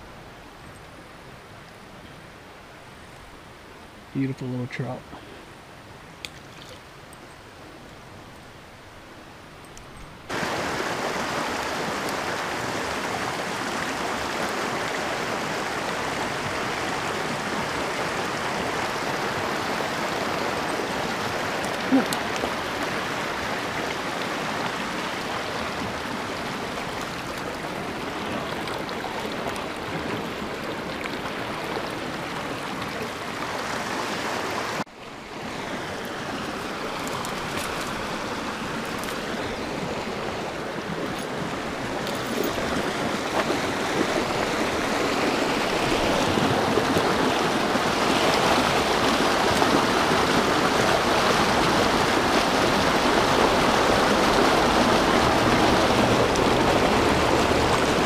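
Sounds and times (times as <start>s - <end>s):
creek water rushing over rocks: 10.2s - 58.0s.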